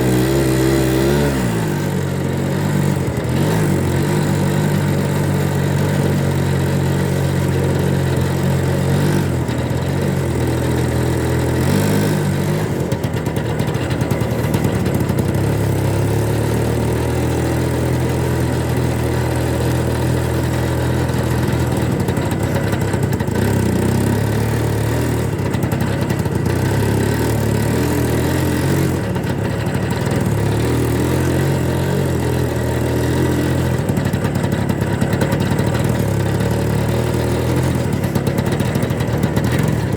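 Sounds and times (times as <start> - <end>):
trike engine running: 0.0 - 39.9.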